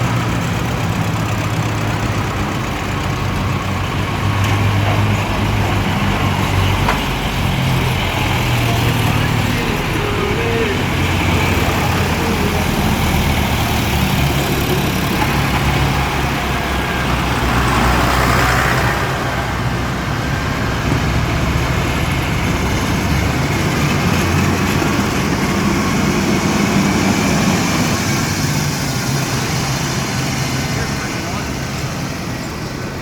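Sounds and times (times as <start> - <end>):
tractor engines running: 0.0 - 33.0.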